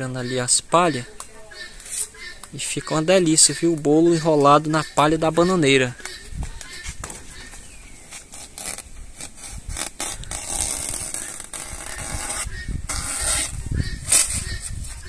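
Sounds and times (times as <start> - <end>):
leaves crackling and rustling: 0.7 - 15.0.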